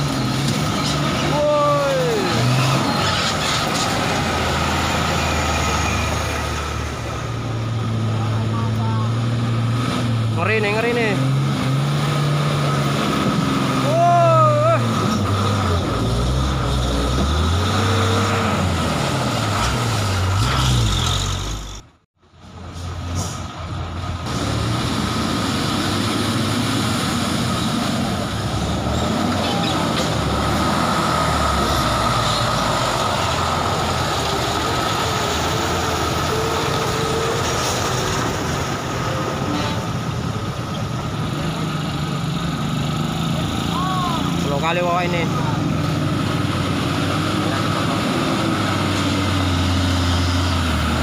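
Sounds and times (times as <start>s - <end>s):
truck diesel engines labouring: 0.0s - 51.0s.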